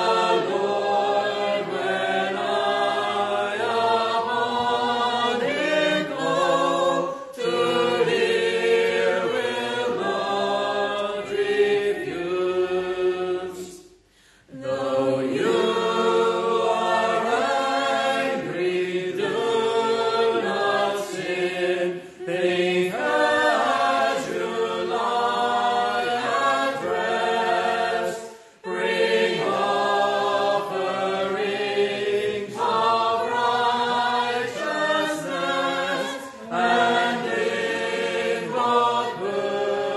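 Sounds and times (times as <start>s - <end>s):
congregation singing unaccompanied: 0.0s - 39.9s.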